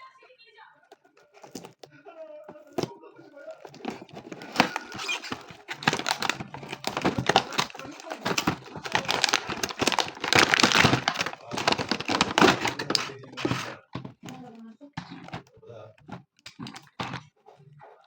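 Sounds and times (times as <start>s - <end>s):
packaging crinkling and rustling: 0.9s - 17.8s.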